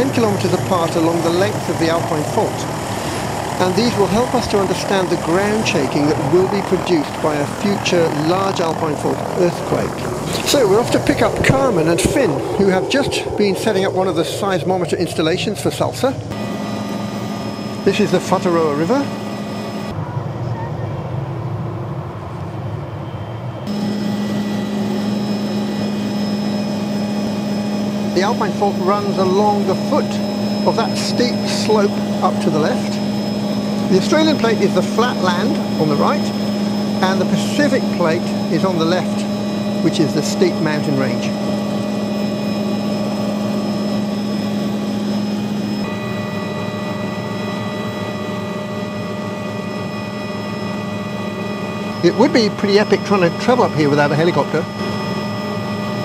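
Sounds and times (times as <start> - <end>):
helicopter cabin drone and whine: 0.0 - 56.0
helicopter flying overhead: 0.0 - 56.0.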